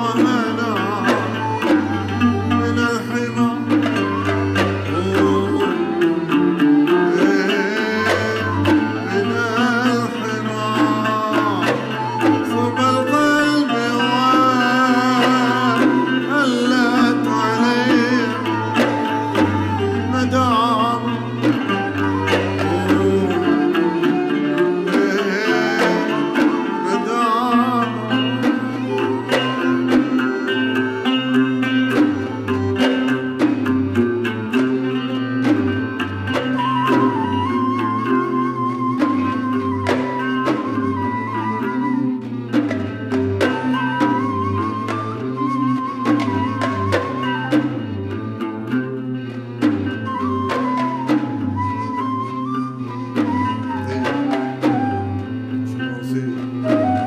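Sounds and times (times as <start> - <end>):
hand-drum rhythm: 0.0 - 57.0
wavering string melody: 0.0 - 57.0.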